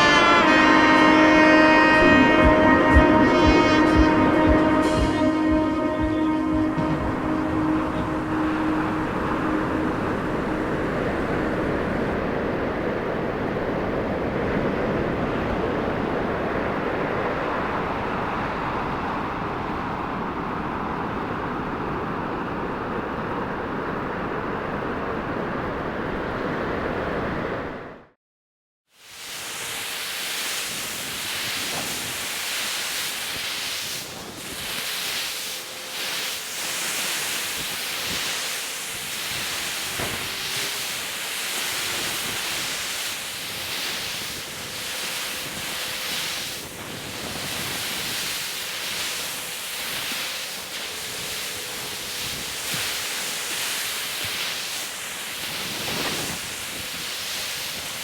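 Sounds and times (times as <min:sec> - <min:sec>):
ocean surf breaking: 0:00.0 - 0:28.0, 0:29.0 - 0:58.0.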